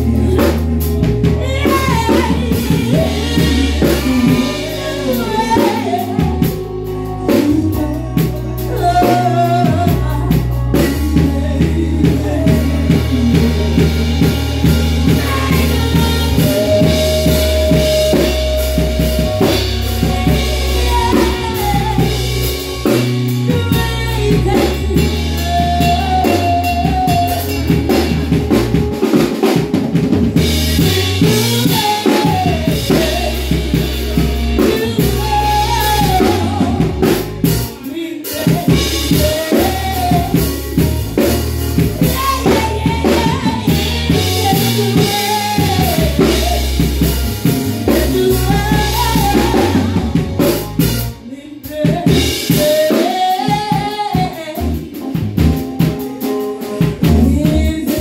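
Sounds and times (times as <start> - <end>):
woman singing: 0.0 - 29.6, 30.3 - 58.0
band music with drum kit: 0.0 - 58.0.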